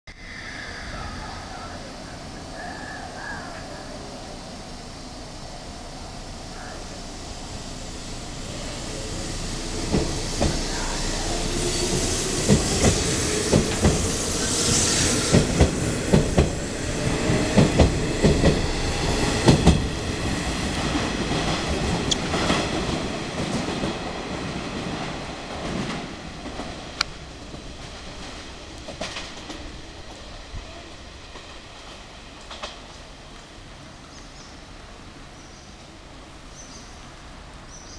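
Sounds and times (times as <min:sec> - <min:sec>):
train rumble: 0:00.1 - 0:37.9.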